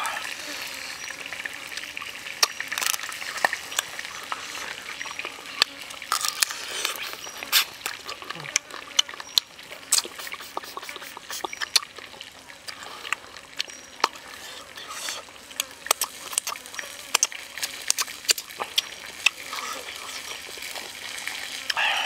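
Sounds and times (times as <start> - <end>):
wet chewing and lip smacks: 1.7 - 22.0.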